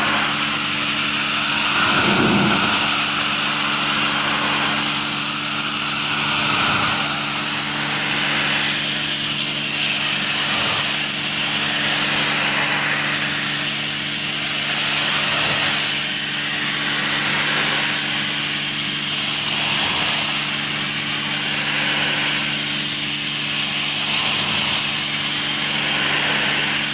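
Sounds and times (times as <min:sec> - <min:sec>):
pressure washer machine hum: 0:00.0 - 0:26.9
water jet hissing on sheet metal: 0:00.0 - 0:26.9.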